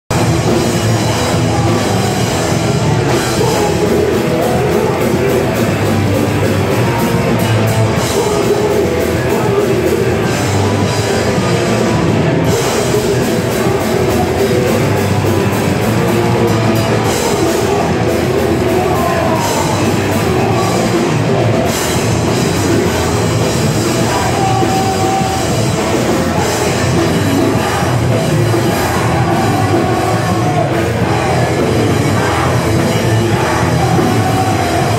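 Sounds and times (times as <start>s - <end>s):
loud fast rock band: 0.0s - 34.9s.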